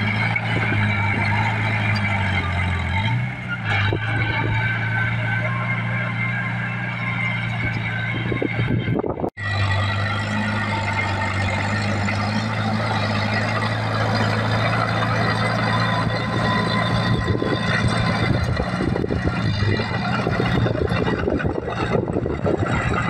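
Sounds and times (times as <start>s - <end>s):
bulldozer diesel engine under load: 0.0s - 23.0s.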